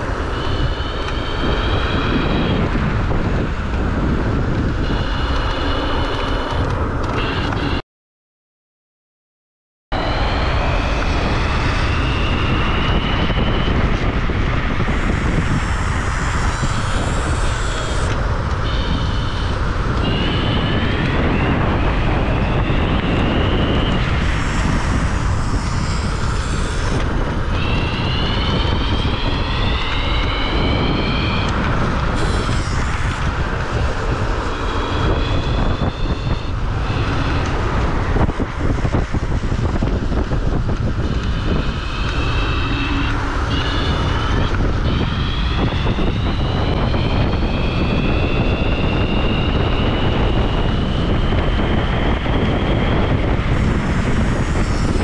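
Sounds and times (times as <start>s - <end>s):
electric scooter motor whine: 0.0s - 7.8s, 10.0s - 55.0s
wind rumble on microphone: 0.0s - 7.8s, 9.9s - 55.0s.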